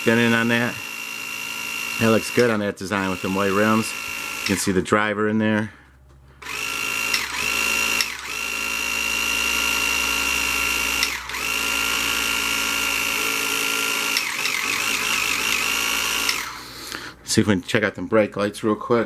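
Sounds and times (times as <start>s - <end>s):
slot car motor whining: 0.0s - 4.8s, 6.4s - 17.2s.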